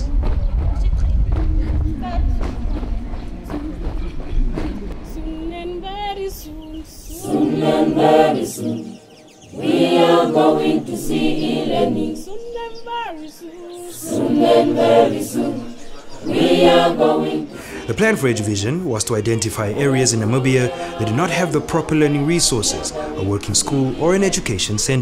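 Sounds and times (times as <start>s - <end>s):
choir singing a cappella: 1.5s - 25.0s.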